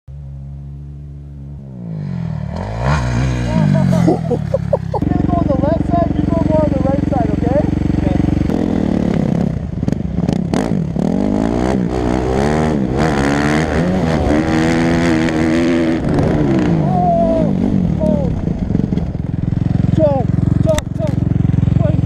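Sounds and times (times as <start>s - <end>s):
dirt bike engine accelerating: 0.1s - 22.0s.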